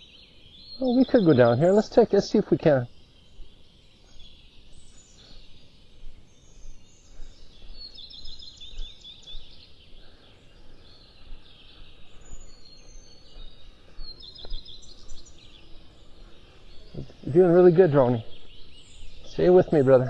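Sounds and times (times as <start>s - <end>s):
faint bird chirps: 0.0s - 20.0s
outdoor background noise: 0.0s - 20.0s
songbird trilling: 0.0s - 20.0s.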